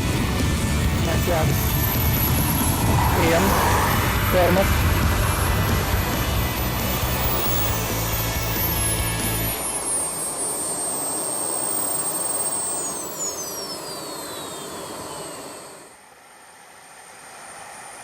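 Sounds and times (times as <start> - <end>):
model jet turbine whining: 0.0 - 16.2.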